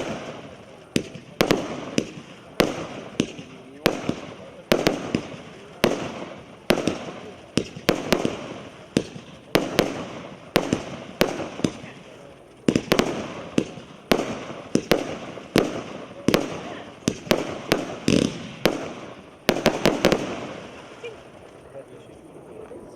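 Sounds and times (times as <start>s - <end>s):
fireworks cake bangs: 0.0s - 21.7s.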